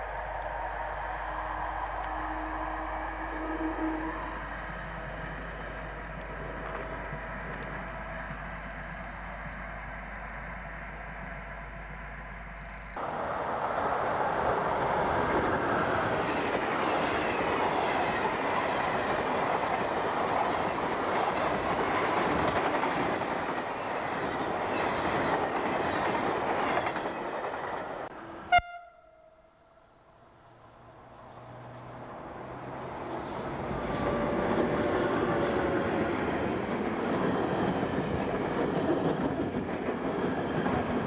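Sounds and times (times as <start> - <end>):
train wheels rushing on rails: 0.0 - 28.1, 31.1 - 41.0.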